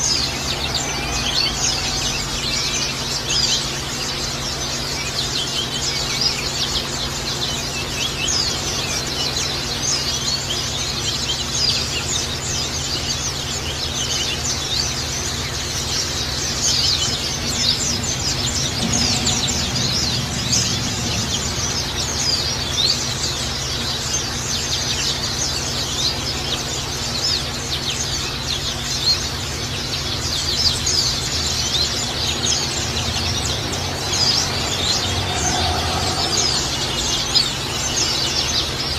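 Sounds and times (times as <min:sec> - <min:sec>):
birds twittering: 0:00.0 - 0:38.9.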